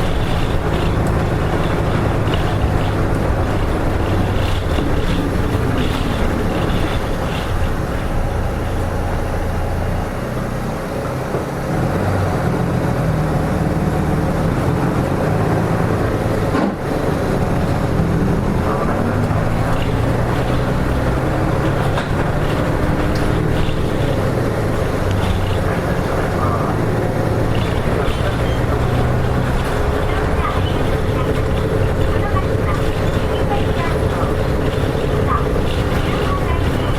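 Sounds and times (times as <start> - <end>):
bus diesel engine running: 0.0 - 36.9
road and cabin noise: 0.0 - 36.9.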